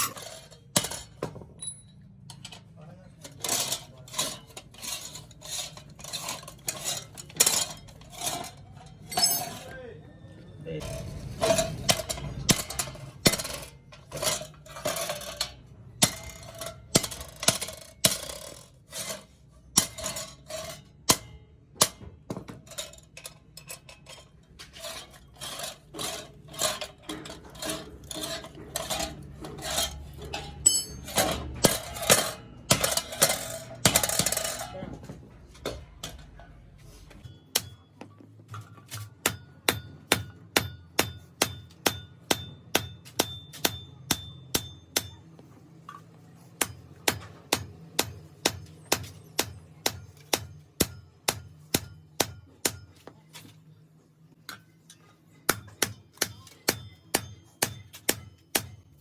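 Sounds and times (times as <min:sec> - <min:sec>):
metal clattering and scraping: 0:00.0 - 0:09.8, 0:10.8 - 0:51.2.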